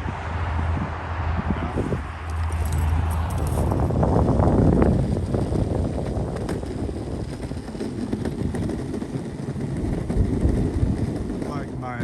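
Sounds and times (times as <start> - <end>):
skateboard wheels rumbling: 0.0 - 12.0
wind buffeting microphone: 0.0 - 12.0.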